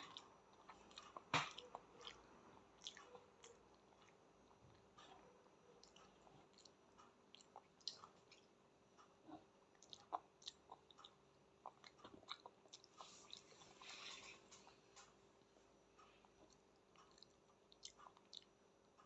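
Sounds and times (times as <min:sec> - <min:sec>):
child chewing and mouth smacks: 0:00.0 - 0:19.0.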